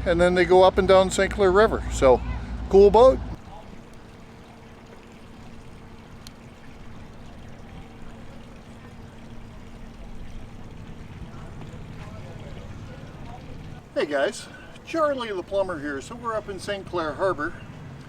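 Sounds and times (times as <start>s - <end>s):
steady water noise: 0.0s - 18.0s.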